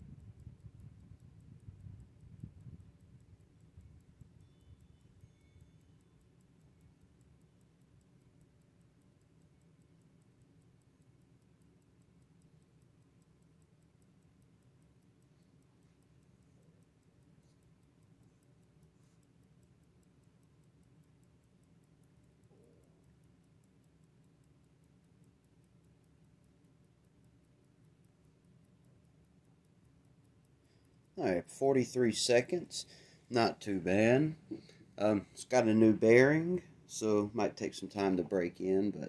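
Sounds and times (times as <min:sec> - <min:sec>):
electric fan coasting: 0:00.0 - 0:39.0
pocket watch ticking: 0:00.0 - 0:39.0.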